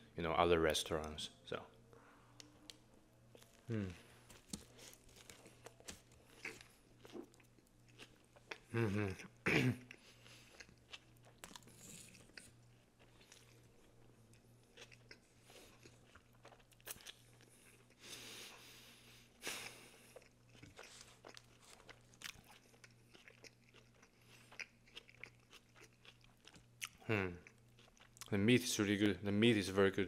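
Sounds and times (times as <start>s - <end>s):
chewing sandwich with crunching: 2.6s - 28.4s.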